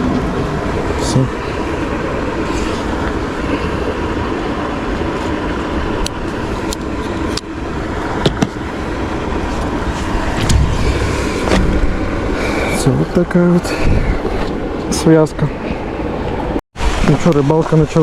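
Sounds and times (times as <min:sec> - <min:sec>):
wind rumble on microphone: 0:00.0 - 0:17.3.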